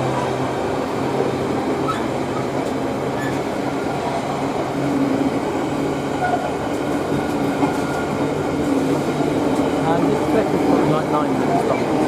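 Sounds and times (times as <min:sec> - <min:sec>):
diesel locomotive engine drone: 0:00.0 - 0:12.0
freight train noise: 0:00.0 - 0:12.0.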